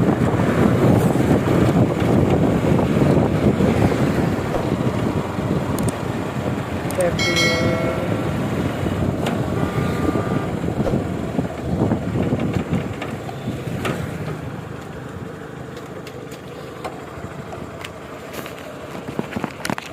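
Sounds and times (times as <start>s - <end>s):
heavy vehicle engine noise: 0.0s - 19.9s.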